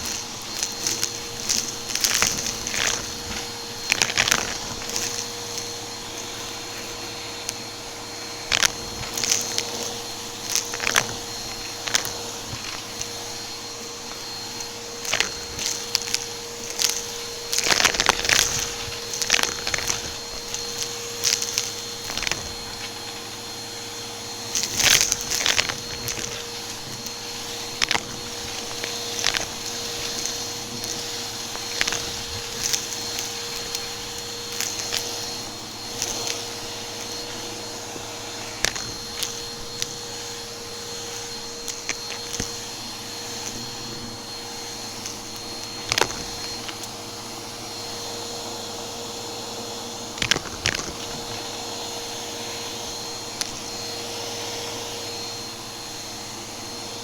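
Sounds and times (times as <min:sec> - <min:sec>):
debris crackling in vacuum: 0:00.0 - 0:47.8, 0:49.4 - 0:55.5
vacuum cleaner motor hum: 0:00.0 - 0:57.0.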